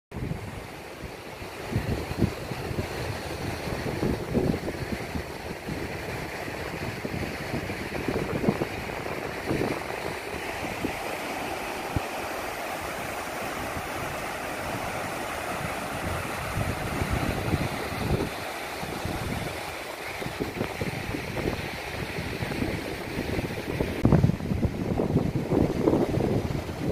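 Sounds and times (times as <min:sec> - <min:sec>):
wind buffeting microphone: 0:00.1 - 0:26.9
surf breaking on shore: 0:00.2 - 0:26.9.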